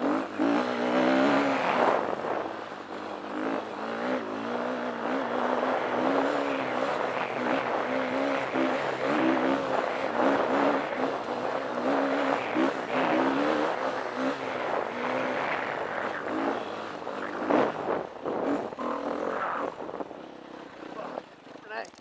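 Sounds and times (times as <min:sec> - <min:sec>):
dirt bike engine revving: 0:00.0 - 0:21.8.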